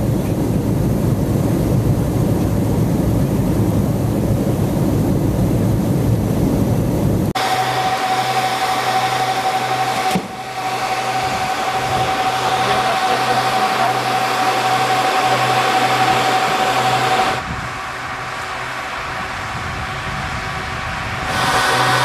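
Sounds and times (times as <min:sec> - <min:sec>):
airliner cabin rushing noise: 0:00.0 - 0:22.0
constant whine: 0:00.0 - 0:22.0
low pulsing hum: 0:00.0 - 0:22.0.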